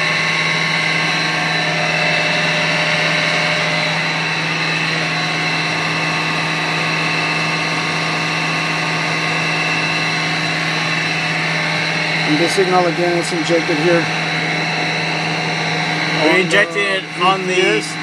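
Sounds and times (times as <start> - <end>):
machinery hum and whine: 0.0 - 18.0.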